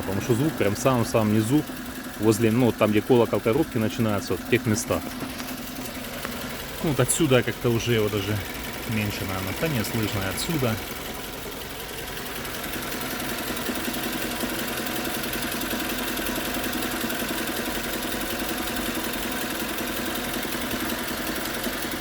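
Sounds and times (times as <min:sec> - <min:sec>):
car engine idling: 0:00.0 - 0:22.0
rapid engine knock: 0:00.0 - 0:22.0.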